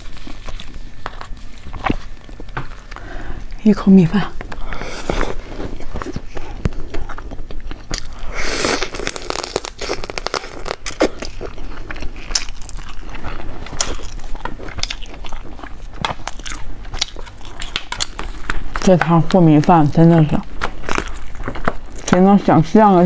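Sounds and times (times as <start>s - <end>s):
person chewing and crunching: 0.0s - 3.6s, 4.4s - 19.4s, 20.5s - 22.2s.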